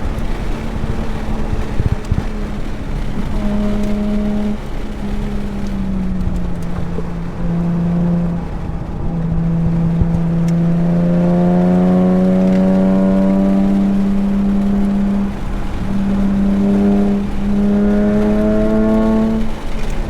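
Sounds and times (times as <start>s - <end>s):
car engine running hard: 0.0s - 20.0s
tyre and road noise: 0.0s - 20.0s.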